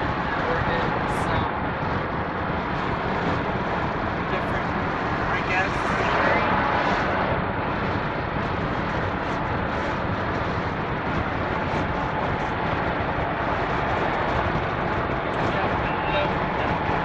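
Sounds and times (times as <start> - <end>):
road and engine noise in van: 0.0 - 17.0.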